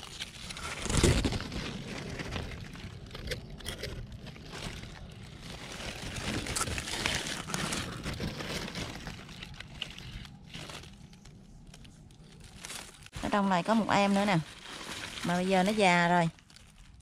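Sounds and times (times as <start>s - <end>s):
leaves and vines rustling: 0.0s - 17.0s.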